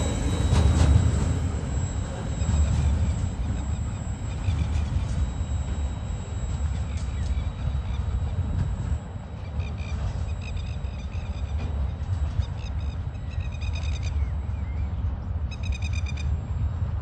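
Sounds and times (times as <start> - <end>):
freight train wagons rolling: 0.0 - 13.8.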